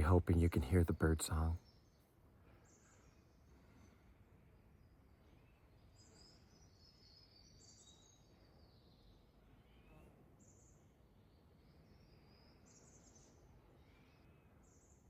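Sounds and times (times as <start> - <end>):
soft lower bird calls: 0.0 - 15.0.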